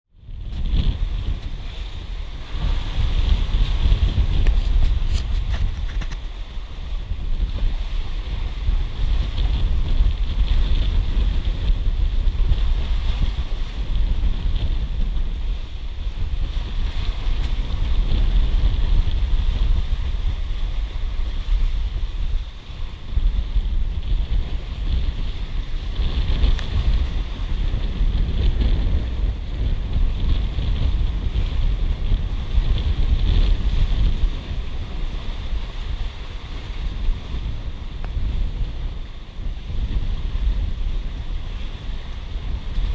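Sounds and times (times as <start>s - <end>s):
wind buffeting microphone: 0.1s - 42.9s
seawater splashing along hull: 0.2s - 42.9s.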